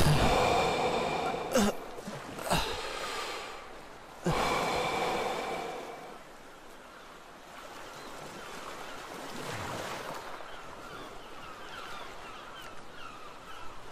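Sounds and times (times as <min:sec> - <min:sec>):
ocean waves: 0:00.0 - 0:13.9.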